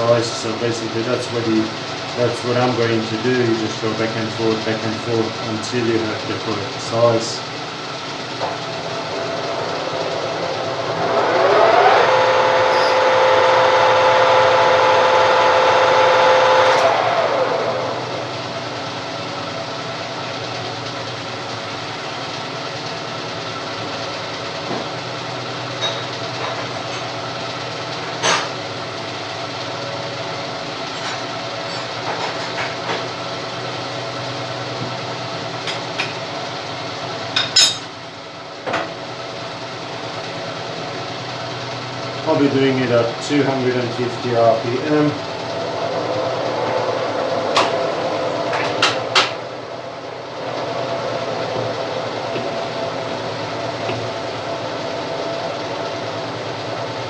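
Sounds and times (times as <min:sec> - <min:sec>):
lathe motor whine: 0:00.0 - 0:57.0.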